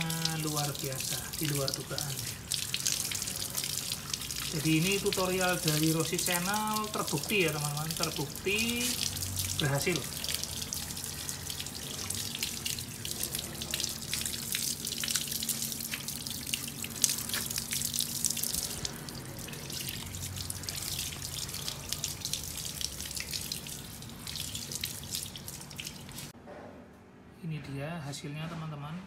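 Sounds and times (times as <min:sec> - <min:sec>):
hose water spraying on metal: 0:00.0 - 0:26.3
water dripping on ground: 0:00.0 - 0:26.3.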